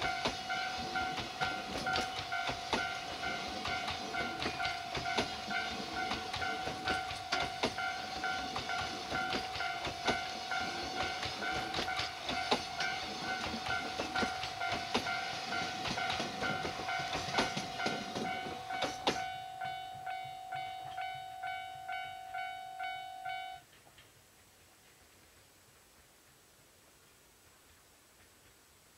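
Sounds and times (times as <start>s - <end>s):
level-crossing warning bell: 0.0s - 23.7s
freight train wheels clacking: 0.0s - 26.4s.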